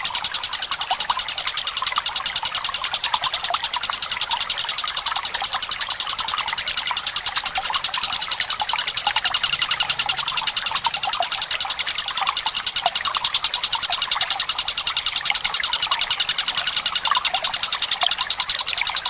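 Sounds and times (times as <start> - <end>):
water trickling and gurgling: 0.0 - 19.0.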